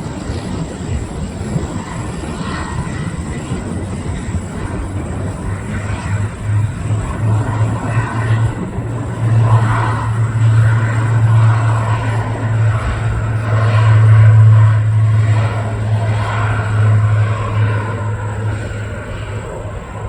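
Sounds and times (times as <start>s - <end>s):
turboprop propeller drone: 0.0s - 20.0s.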